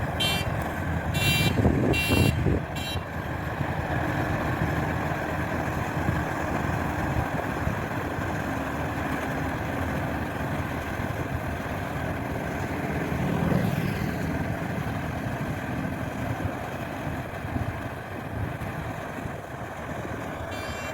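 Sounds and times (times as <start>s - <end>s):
combine harvester droning: 0.0s - 20.9s.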